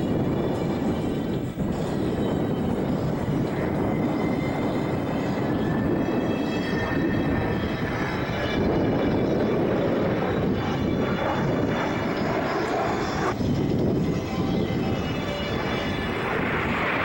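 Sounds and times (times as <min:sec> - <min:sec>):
airplane engine roar: 0:00.0 - 0:17.0.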